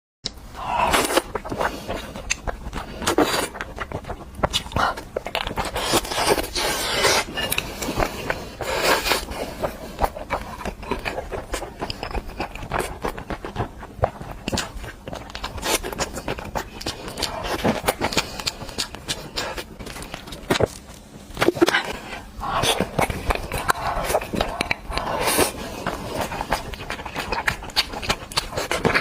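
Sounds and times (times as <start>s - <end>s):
person chewing food: 0.3s - 29.0s.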